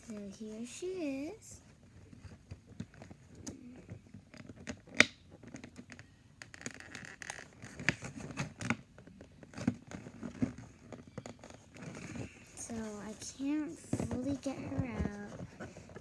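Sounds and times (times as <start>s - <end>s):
packaging rustling and scratching: 1.7s - 16.0s.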